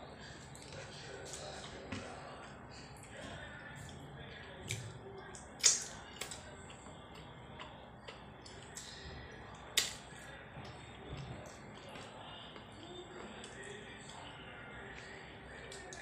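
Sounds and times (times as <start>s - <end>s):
clicks and smacks of eating: 0.2s - 16.0s.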